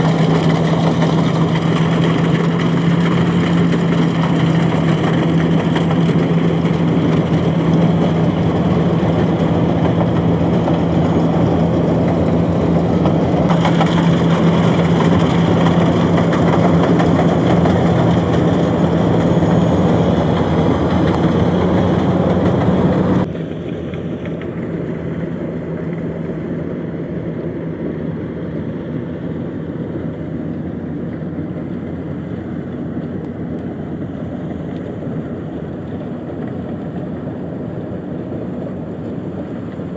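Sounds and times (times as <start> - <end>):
harvester engine droning: 0.0 - 39.9.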